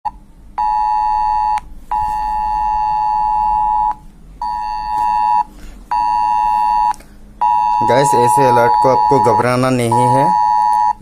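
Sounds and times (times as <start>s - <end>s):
emergency alert tone: 0.6s - 11.0s.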